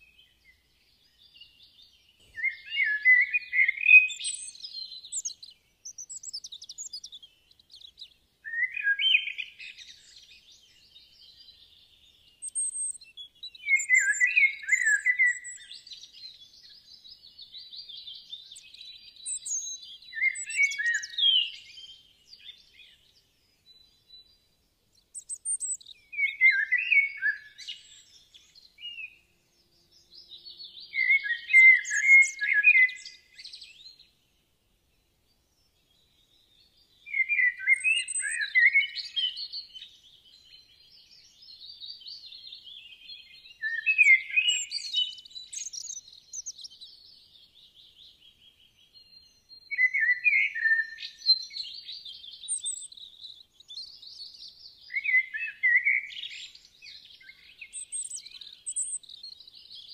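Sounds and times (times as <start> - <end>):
birds chirping and singing: 0.1 - 59.9.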